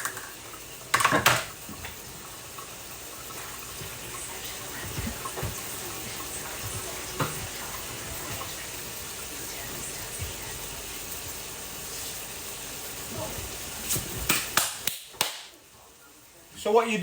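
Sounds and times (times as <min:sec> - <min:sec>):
tap water running into sink: 0:00.0 - 0:15.2.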